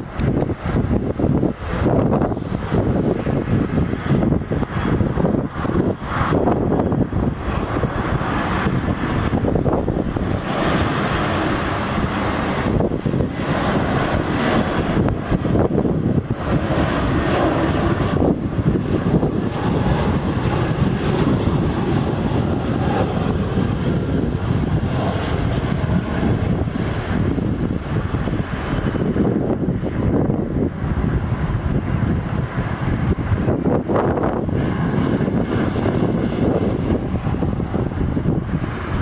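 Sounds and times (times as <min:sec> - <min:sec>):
airliner engines rushing: 0:00.0 - 0:39.0.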